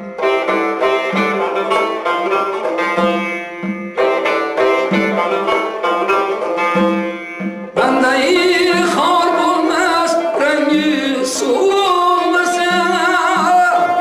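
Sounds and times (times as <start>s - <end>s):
string instruments playing melody: 0.0s - 14.0s.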